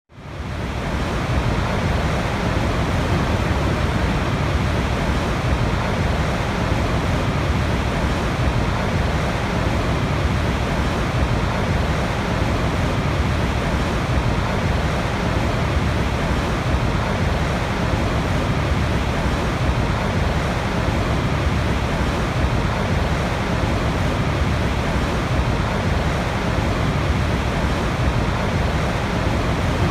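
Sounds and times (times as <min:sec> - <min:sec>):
waterfall roaring: 0:00.1 - 0:29.9.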